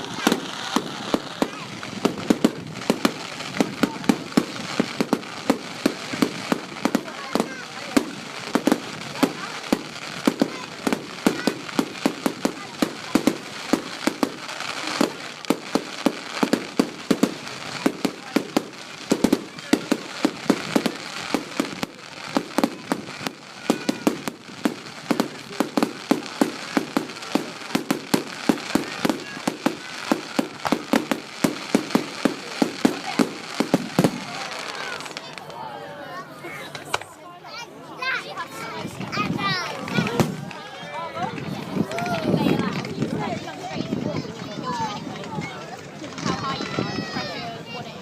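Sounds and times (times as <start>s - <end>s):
firework explosions: 0.0s - 35.8s, 38.2s - 48.0s.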